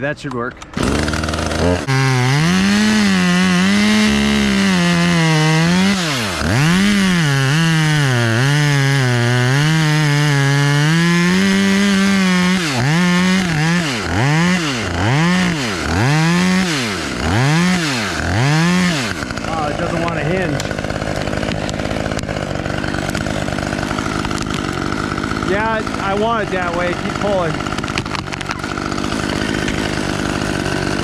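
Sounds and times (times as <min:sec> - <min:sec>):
chainsaw cutting wood: 0:00.6 - 0:31.0.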